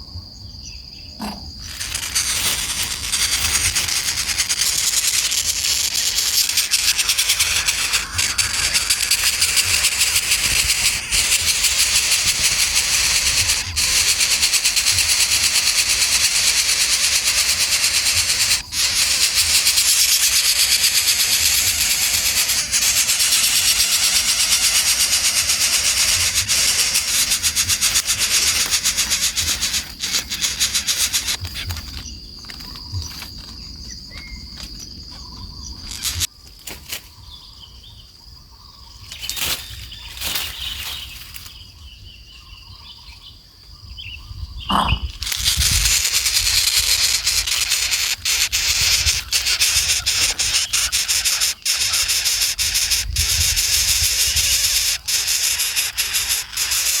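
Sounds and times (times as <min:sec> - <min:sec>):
high-pitched insect trill: 0:00.0 - 0:57.0
insect chorus buzzing: 0:00.0 - 0:57.0.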